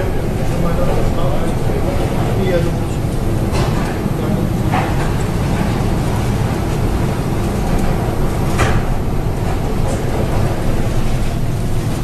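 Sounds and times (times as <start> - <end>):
ship hull rumbling: 0.0 - 12.0
waves: 0.0 - 12.0
wind: 0.0 - 12.0.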